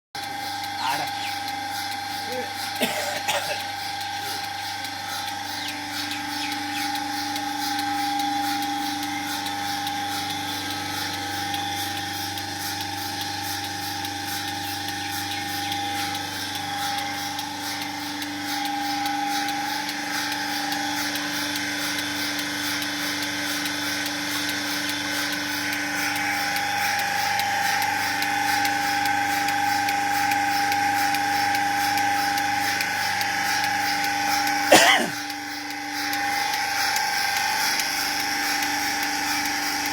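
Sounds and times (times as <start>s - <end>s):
machinery motor whine: 0.2s - 39.9s.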